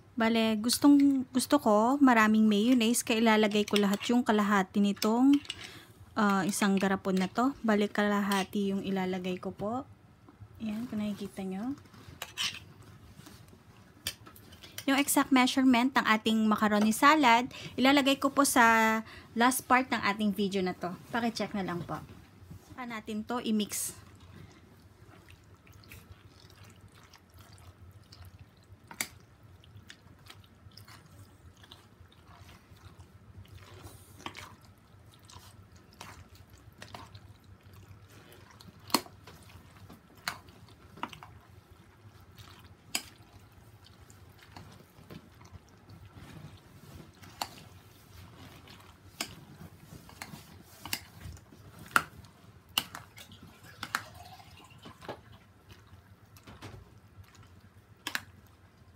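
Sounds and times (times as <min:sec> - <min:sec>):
wet squelching of mixing: 0:00.0 - 0:58.9.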